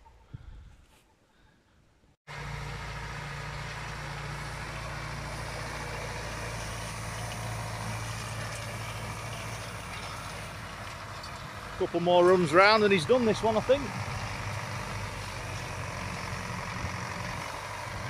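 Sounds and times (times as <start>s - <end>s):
tractor engine running: 2.3s - 18.0s.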